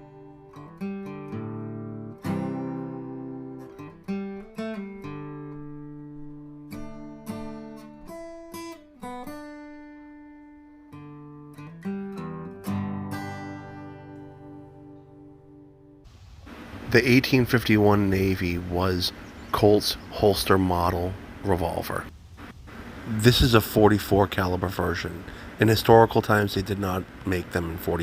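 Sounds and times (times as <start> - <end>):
acoustic guitar chords: 0.0 - 28.0.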